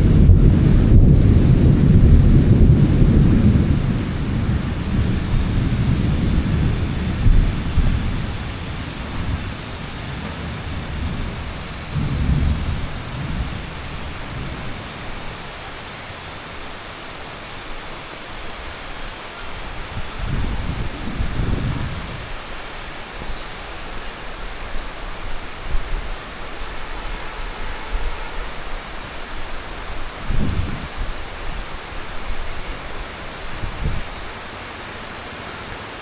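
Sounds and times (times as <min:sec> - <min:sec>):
thunder rumbling: 0:00.0 - 0:17.0, 0:19.8 - 0:34.5
heavy rain hiss: 0:00.0 - 0:36.0.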